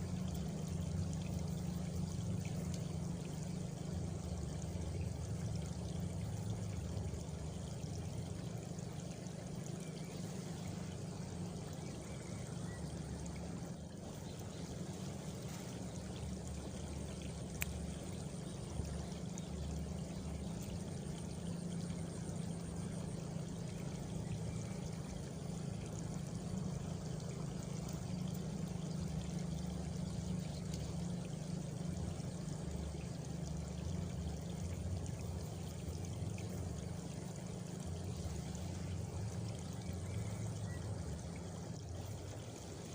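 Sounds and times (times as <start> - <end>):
flowing water: 0.0 - 42.9
faint cricket trill: 0.1 - 42.9.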